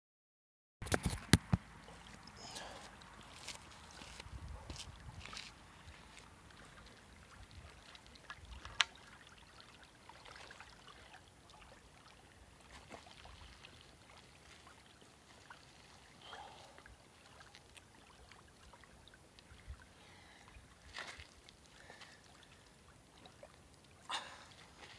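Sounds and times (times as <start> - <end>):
faint water splashing: 1.4 - 24.9.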